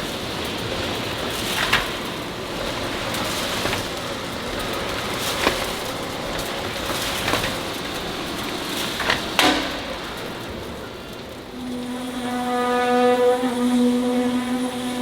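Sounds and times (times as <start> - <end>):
machinery noise: 0.0 - 15.0.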